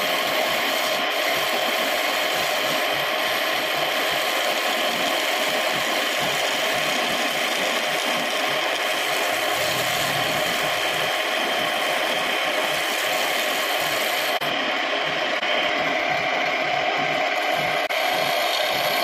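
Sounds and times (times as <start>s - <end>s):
wood lathe running: 0.0s - 19.0s.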